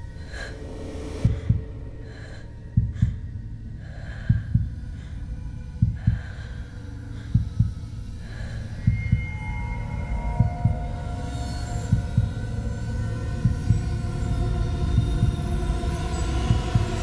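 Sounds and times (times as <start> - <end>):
low drone: 0.0 - 17.0
heartbeat thuds: 1.2 - 2.0, 2.6 - 9.6, 10.2 - 17.0.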